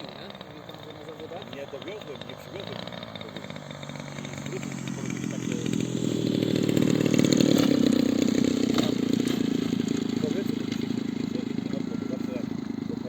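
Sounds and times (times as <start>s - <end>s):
model aircraft engine buzzing: 0.0s - 13.0s.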